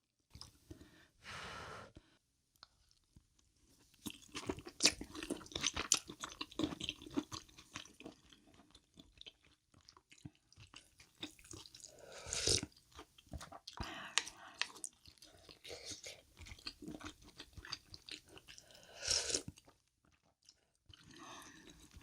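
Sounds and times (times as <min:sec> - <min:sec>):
chewing crunchy food: 0:03.9 - 0:22.0.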